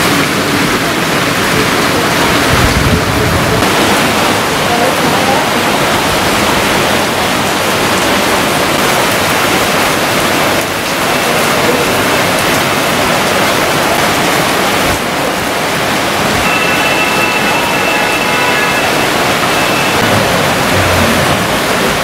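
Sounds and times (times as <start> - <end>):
heavy rain on leaves and pavement: 0.0 - 22.0.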